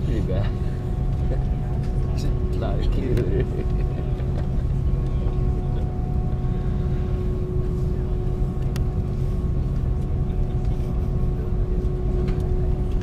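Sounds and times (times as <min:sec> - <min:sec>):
constant whine: 0:00.0 - 0:13.0
low cabin rumble: 0:00.0 - 0:13.0.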